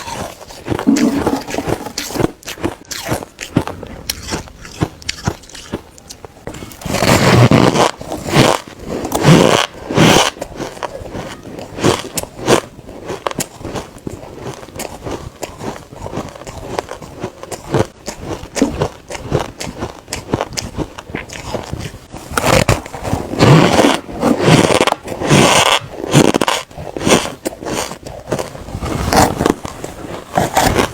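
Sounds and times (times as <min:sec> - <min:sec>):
crunching ice: 0:00.0 - 0:30.9.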